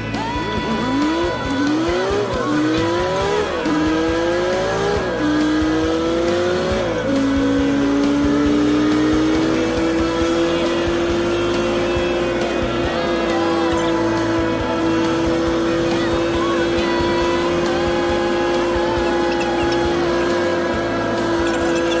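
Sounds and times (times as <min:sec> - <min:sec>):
vehicle engine accelerating hard: 0:00.0 - 0:22.0.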